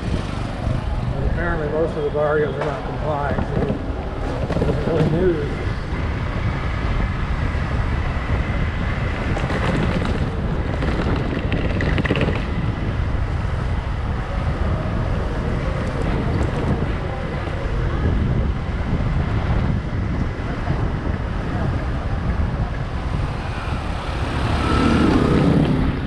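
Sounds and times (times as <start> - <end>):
motorcycle running: 0.0 - 26.0
wind buffeting microphone: 0.0 - 26.0.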